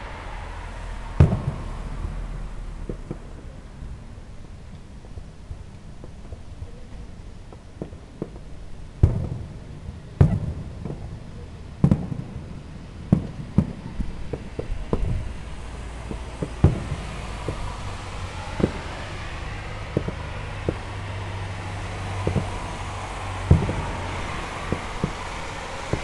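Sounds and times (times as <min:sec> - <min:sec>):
fireworks bangs: 0:00.0 - 0:04.1, 0:05.0 - 0:26.0
rushing background noise: 0:00.0 - 0:26.0.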